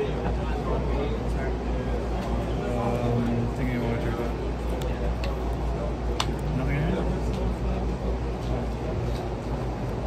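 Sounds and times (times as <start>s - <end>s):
indistinct crowd chatter: 0.0s - 10.0s
steady low hum: 0.0s - 10.0s.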